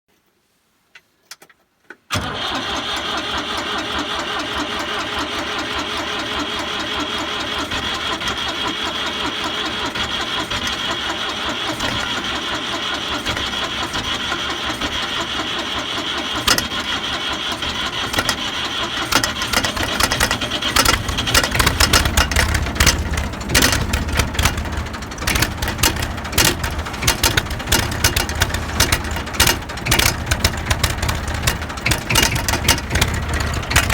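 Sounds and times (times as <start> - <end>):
starter cranking engine: 2.1 - 33.9
tractor engine running rough: 2.1 - 33.9.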